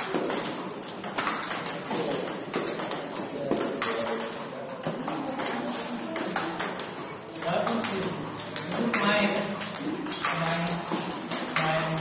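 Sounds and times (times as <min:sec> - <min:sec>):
ball bouncing on table: 0:00.0 - 0:12.0
table tennis ball hitting paddles: 0:00.0 - 0:12.0.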